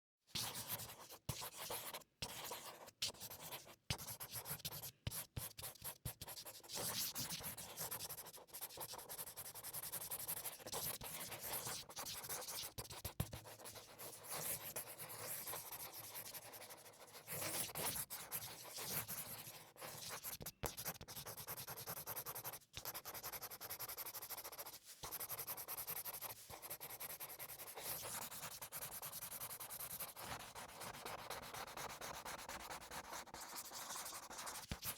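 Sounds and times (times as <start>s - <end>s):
marker scratching on paper: 0.4s - 34.9s.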